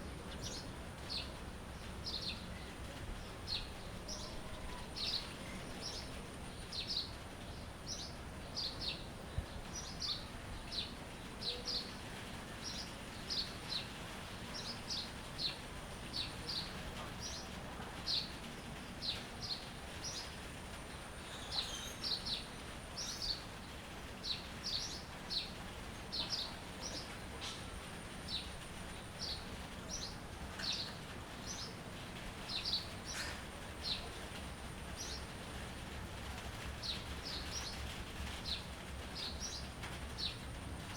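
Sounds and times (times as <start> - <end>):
songbirds chirping: 0.0 - 40.9
steady background hiss: 0.0 - 40.9.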